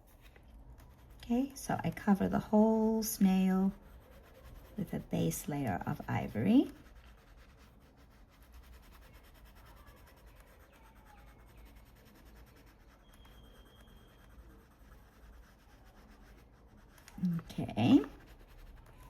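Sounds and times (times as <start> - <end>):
coloured pencil shading on paper: 0.0 - 19.0.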